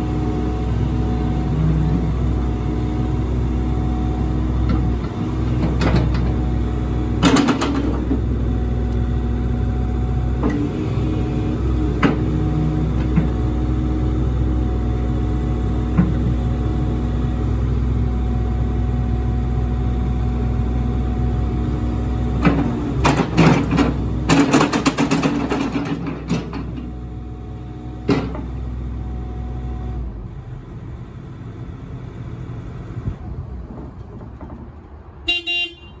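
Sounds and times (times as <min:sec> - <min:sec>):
diesel engine running: 0:00.0 - 0:35.1.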